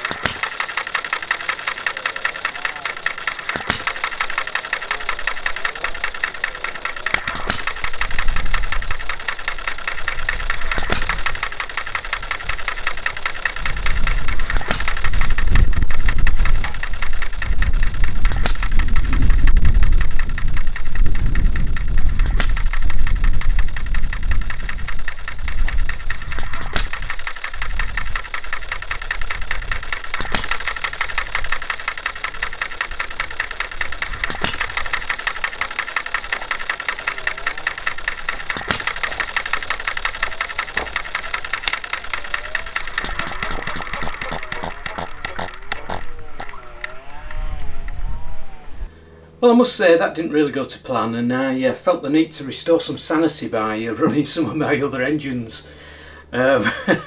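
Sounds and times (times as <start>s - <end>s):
engine clattering: 0.0s - 47.4s
engine popping: 0.0s - 47.9s.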